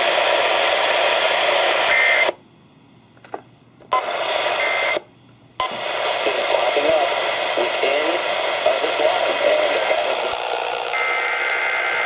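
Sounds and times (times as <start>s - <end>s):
radio static hiss: 0.0s - 2.4s, 3.9s - 12.0s.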